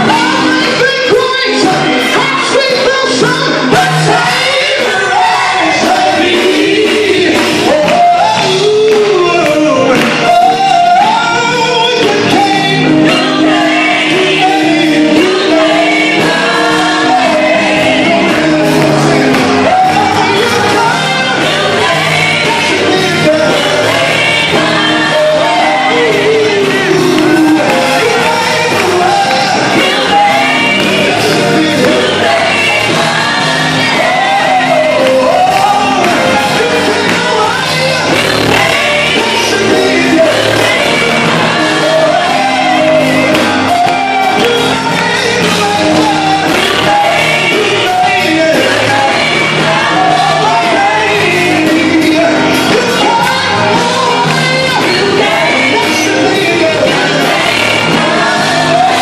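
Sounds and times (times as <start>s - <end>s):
instrumental accompaniment: 0.0s - 59.0s
man singing into a microphone: 0.0s - 59.0s
women singing backing vocals: 0.0s - 59.0s.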